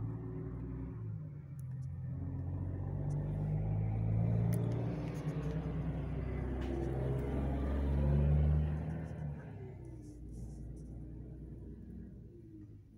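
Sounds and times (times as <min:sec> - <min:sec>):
truck diesel engine rumbling: 0:00.0 - 0:12.1.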